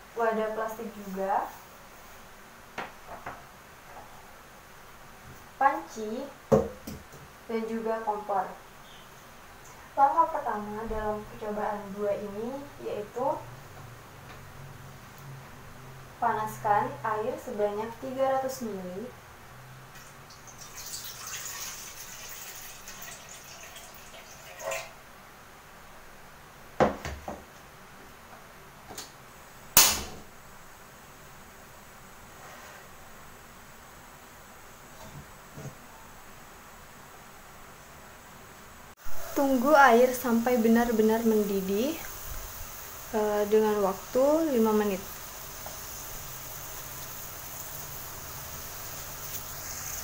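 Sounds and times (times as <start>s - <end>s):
steady low hiss: 0.0s - 22.8s, 23.6s - 50.0s.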